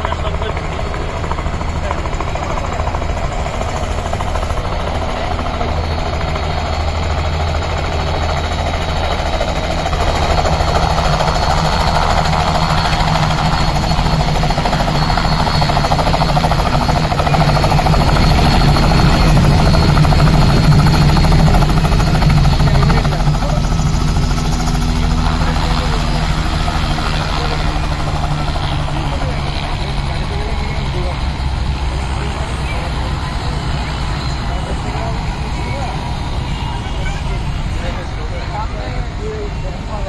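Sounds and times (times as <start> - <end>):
helicopter rotor and engine: 0.0 - 40.0.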